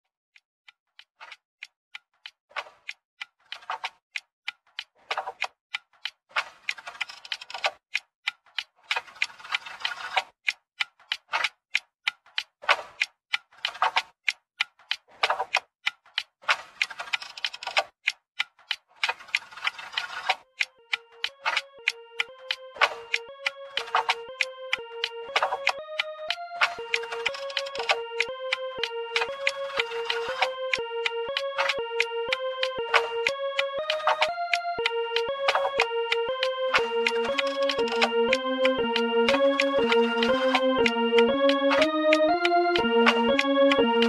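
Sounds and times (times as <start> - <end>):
clock-like ticking: 0.4 - 44.0.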